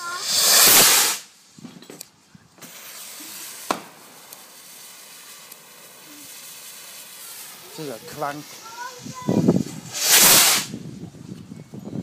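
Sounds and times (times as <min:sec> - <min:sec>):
firework sharp crack: 0:00.0 - 0:01.4, 0:02.6 - 0:10.8
firework rocket hissing: 0:00.0 - 0:01.6, 0:02.5 - 0:11.1.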